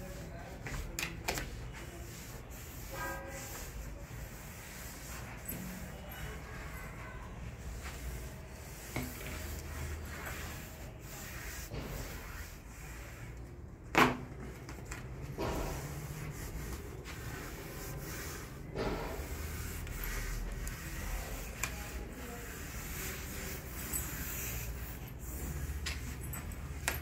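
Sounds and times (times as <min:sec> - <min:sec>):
hands rubbing velvet cloth: 0:00.0 - 0:13.6, 0:15.3 - 0:27.0.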